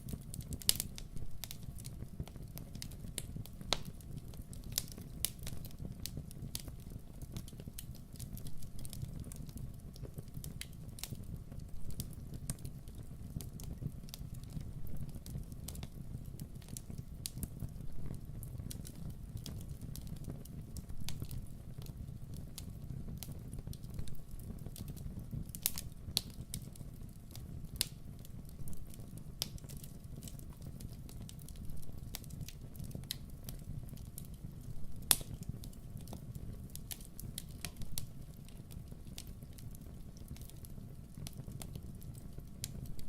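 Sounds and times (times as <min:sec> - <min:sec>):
fireplace fire crackling: 0:00.0 - 0:43.0
low flame rumble: 0:00.0 - 0:43.0
sharp pops of fire: 0:00.1 - 0:43.0.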